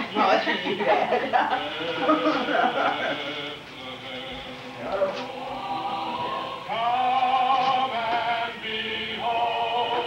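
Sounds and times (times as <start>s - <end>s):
music: 0.0s - 10.0s.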